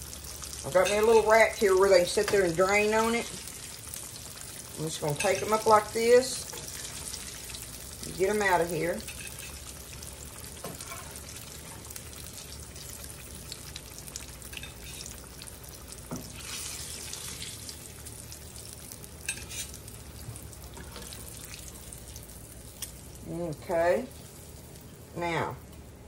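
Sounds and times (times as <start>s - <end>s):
grease sizzling in a skillet: 0.0s - 25.7s.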